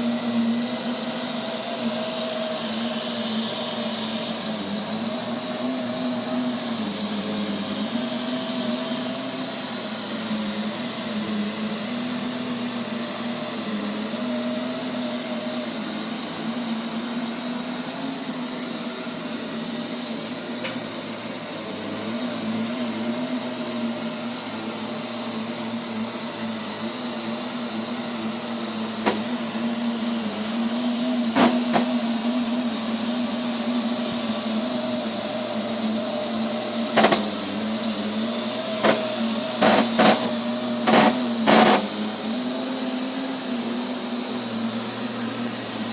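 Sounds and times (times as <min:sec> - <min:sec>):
robot vacuum humming: 0:00.0 - 0:45.9.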